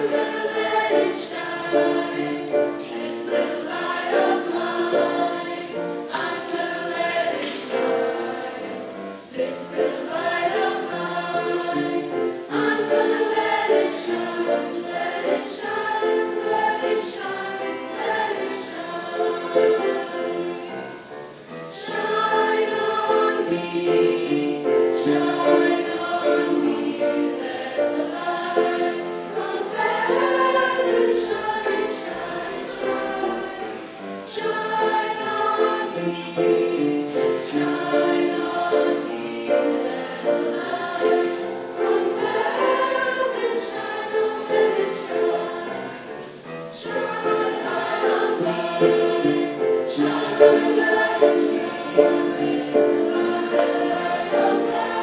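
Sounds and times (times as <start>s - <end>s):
chorus singing in parts: 0.0s - 55.0s.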